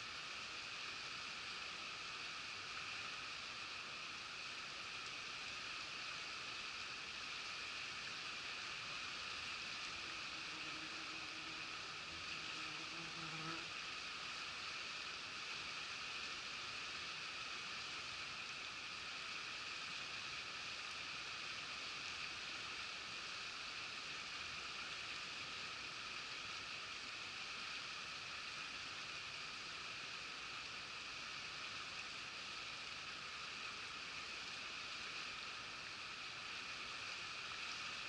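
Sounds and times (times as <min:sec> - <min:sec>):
river running over stones: 0:00.0 - 0:38.0.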